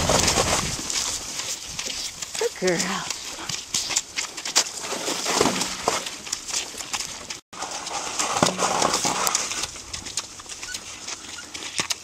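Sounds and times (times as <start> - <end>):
cart and harness rattling: 0.0 - 12.0
hooves clopping on muddy trail: 0.0 - 12.0.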